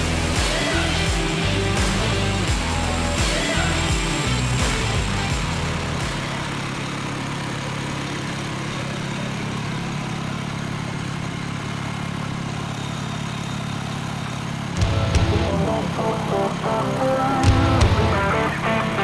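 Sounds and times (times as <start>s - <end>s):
gas engine running: 0.0s - 19.0s.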